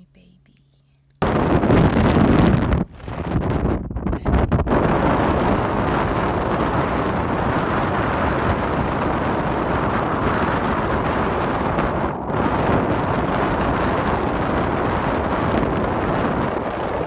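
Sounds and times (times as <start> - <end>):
wind buffeting microphone: 1.2 - 17.0.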